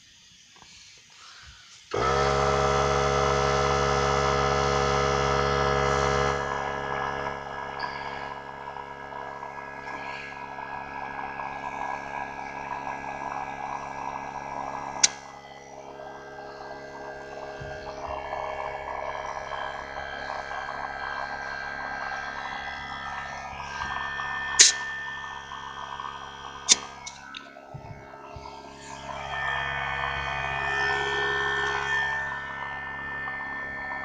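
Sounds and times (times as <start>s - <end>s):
air compressor motor running: 1.9s - 34.0s.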